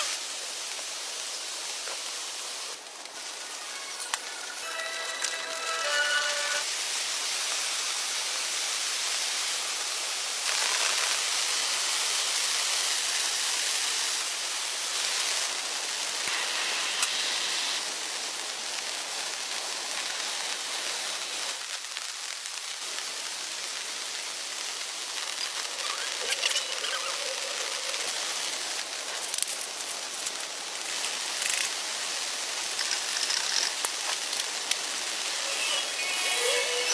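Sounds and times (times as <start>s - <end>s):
heavy rain hissing: 0.0s - 36.9s.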